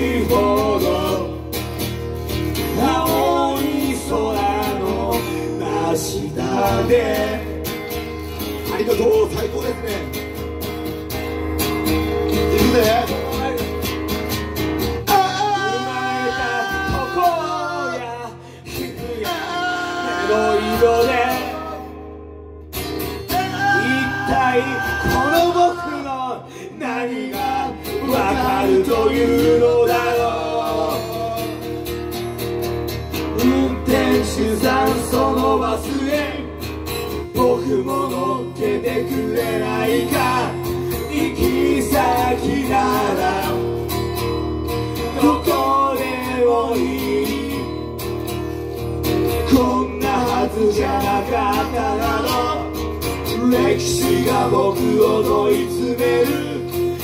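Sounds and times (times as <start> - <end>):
men singing: 0.0 - 9.6, 12.3 - 13.9, 14.9 - 22.2, 23.3 - 32.2, 33.1 - 48.4, 49.1 - 57.0
acoustic guitar strummed: 0.0 - 57.0.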